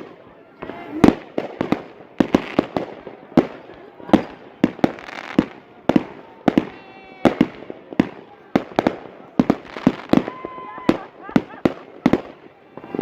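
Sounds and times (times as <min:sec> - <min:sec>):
fireworks banging: 0:00.0 - 0:13.0.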